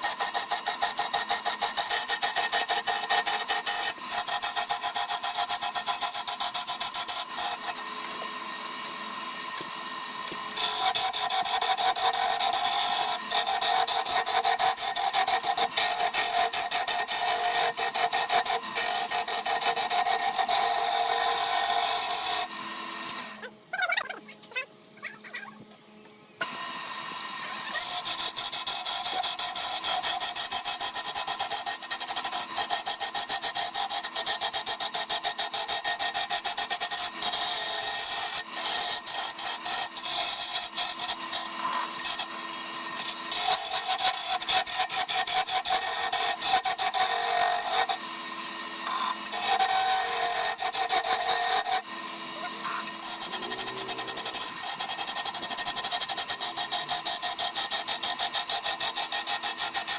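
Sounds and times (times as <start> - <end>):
lathe tool scraping wood: 0.0 - 23.4, 26.4 - 59.9.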